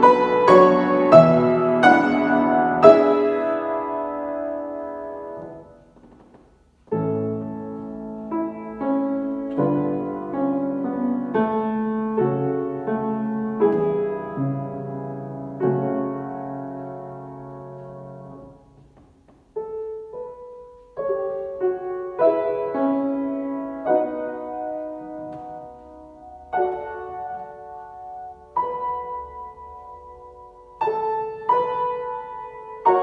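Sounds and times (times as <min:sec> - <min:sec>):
slow lyrical piano piece: 0:00.0 - 0:33.0.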